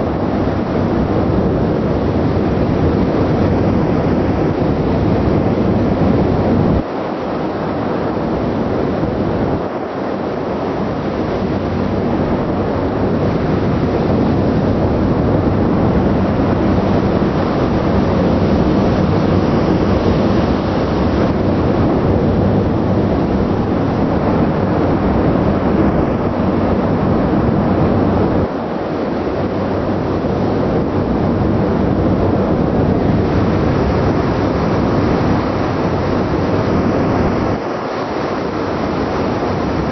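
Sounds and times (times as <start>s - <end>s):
sea: 0.0s - 39.9s
ship engine rumble: 0.0s - 39.9s
wind on microphone: 0.0s - 39.9s.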